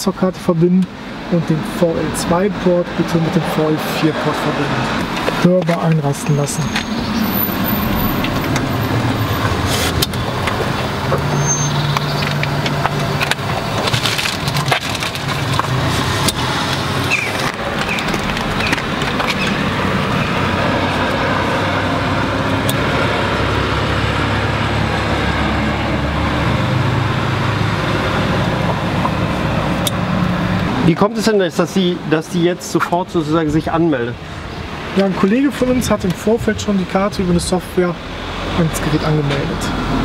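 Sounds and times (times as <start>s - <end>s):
low rumbles: 0.0s - 40.0s
traffic and street noise: 0.0s - 40.0s.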